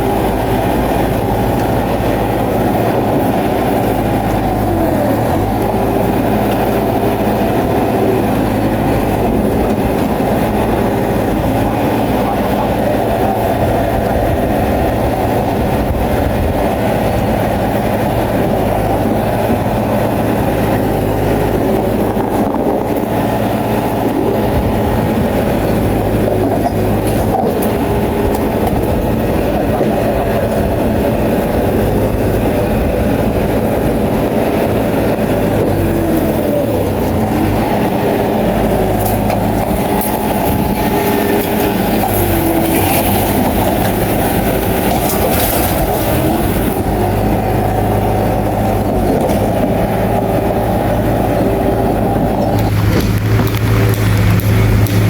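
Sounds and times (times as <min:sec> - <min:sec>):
bulldozer diesel engine running: 0:00.0 - 0:55.0
steel tracks clanking: 0:00.0 - 0:55.0.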